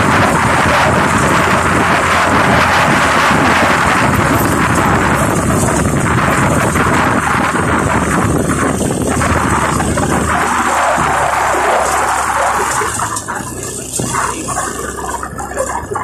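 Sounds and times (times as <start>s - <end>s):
motorcycle engine running: 0.0s - 16.0s
road noise: 0.0s - 16.0s
wind buffeting microphone: 0.0s - 16.0s.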